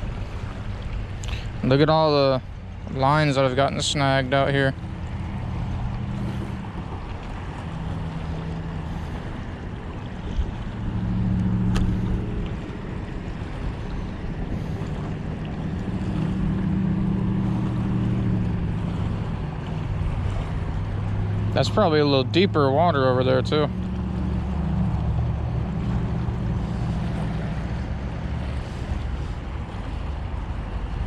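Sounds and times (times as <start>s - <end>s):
low engine hum: 0.0s - 31.0s
water noise: 0.0s - 31.0s
wind: 0.0s - 31.0s.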